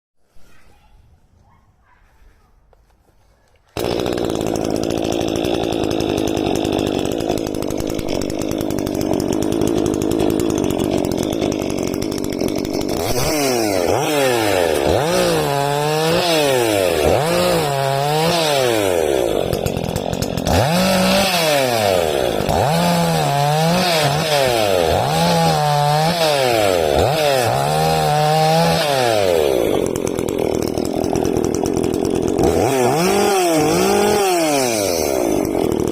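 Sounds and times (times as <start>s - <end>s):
chainsaw engine revving: 3.8s - 35.9s.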